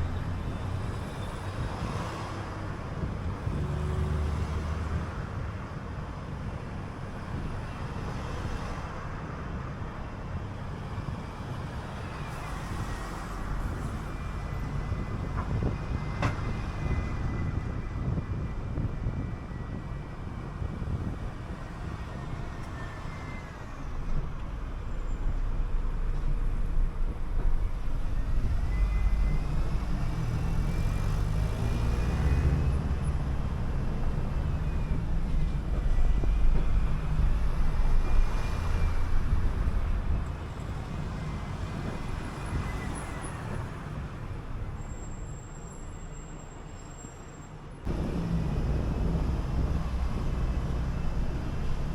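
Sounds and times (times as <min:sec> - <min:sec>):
bus engine rumble: 0:00.0 - 0:51.9.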